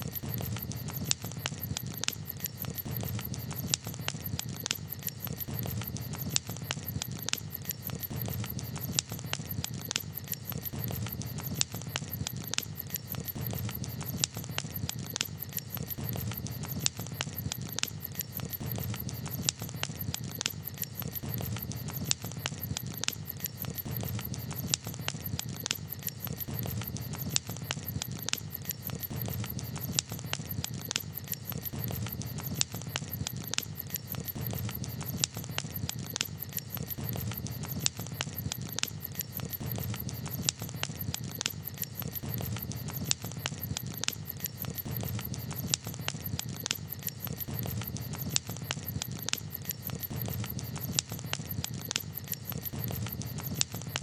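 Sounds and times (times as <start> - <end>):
campfire crackling: 0.0 - 54.0
low rumble of fire: 0.0 - 54.0.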